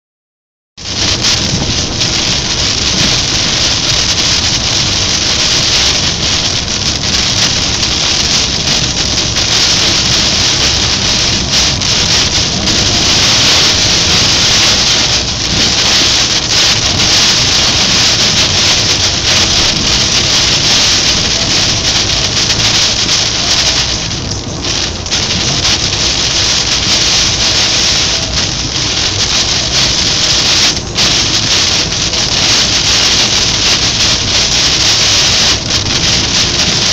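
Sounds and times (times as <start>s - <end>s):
car road noise: 0.8s - 36.9s
heavy rain on car roof: 0.8s - 36.9s.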